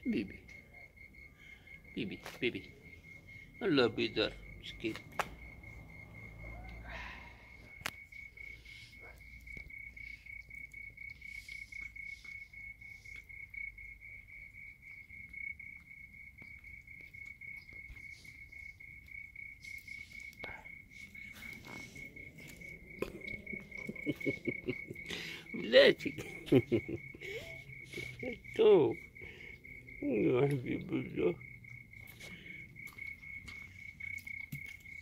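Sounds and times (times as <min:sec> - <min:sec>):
cricket trilling: 0:00.0 - 0:35.0.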